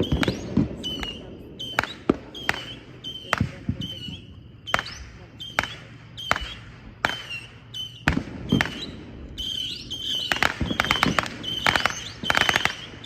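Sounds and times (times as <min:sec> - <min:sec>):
fireworks bangs: 0:00.0 - 0:13.0
fireworks rapid-fire volleys: 0:00.0 - 0:13.0
high whistling tone: 0:00.0 - 0:13.0.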